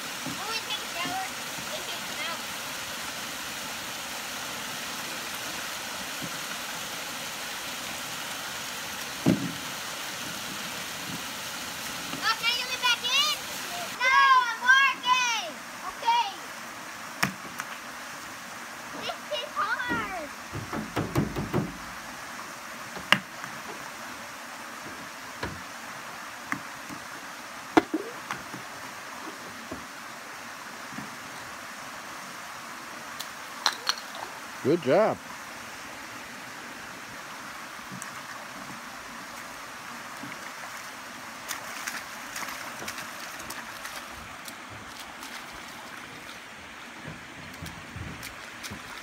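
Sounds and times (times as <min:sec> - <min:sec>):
creek water running over stones: 0:00.0 - 0:49.0.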